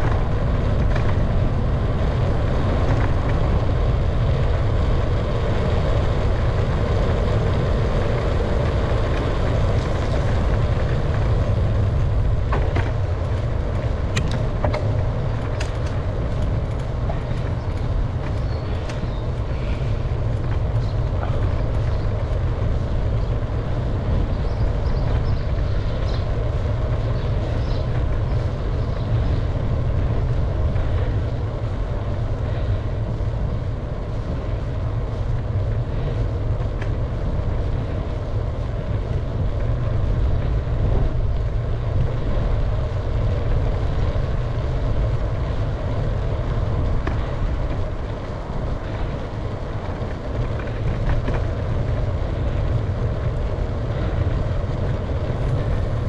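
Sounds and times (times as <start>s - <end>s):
wind and road noise from bicycle: 0.0s - 56.0s.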